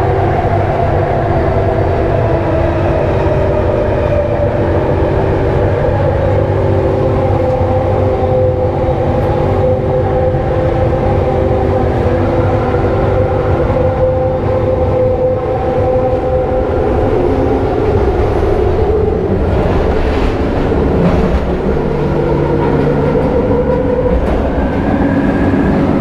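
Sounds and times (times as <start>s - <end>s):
train rumble: 0.0s - 26.0s
train whining tones: 0.0s - 26.0s.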